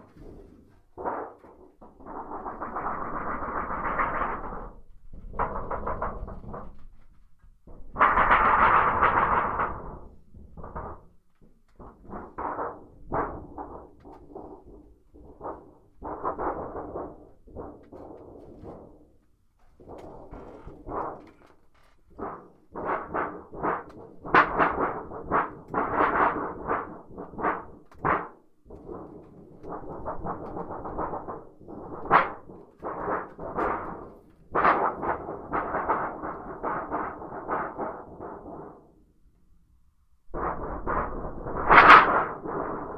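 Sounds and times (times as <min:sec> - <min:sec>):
sheet metal cracking: 0:00.0 - 0:38.9
thunder sheet wobbling: 0:00.0 - 0:39.0, 0:40.3 - 0:42.9.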